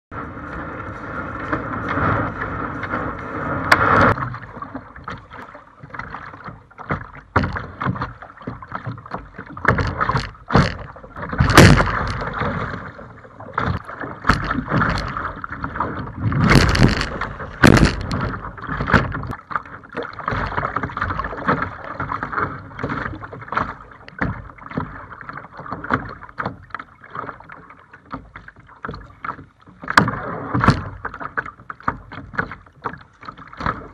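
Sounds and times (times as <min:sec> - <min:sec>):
paddle strokes knocking and splashing: 0:00.1 - 0:33.9
water splashing against paddle board: 0:00.1 - 0:33.9.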